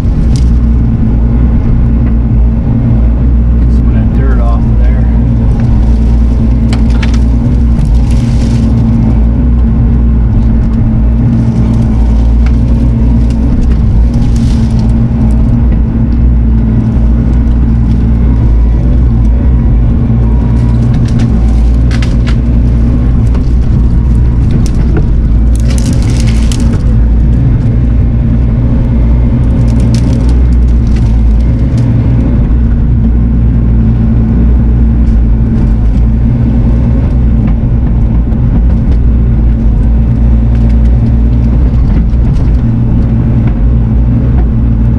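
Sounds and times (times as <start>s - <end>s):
brush and wood cracking: 0.0s - 0.8s, 5.2s - 32.7s, 35.0s - 43.6s
diesel engine running under load: 0.0s - 44.9s.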